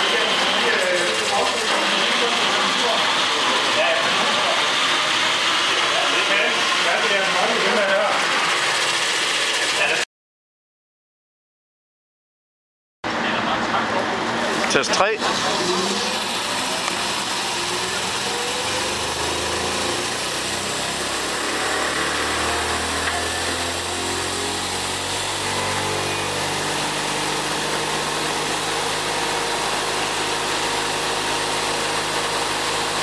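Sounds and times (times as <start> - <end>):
electric motor whining hum: 0.0 - 10.0, 13.6 - 33.0.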